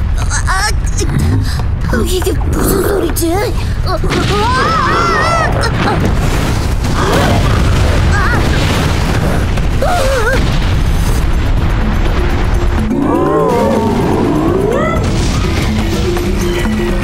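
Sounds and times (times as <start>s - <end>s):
dramatic music: 0.0s - 17.0s
heavy booming rumble: 0.0s - 17.0s.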